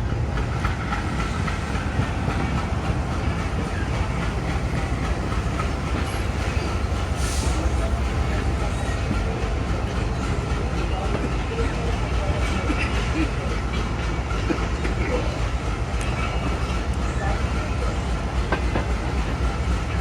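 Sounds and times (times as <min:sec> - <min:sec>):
diesel train rumble: 0:00.0 - 0:20.0.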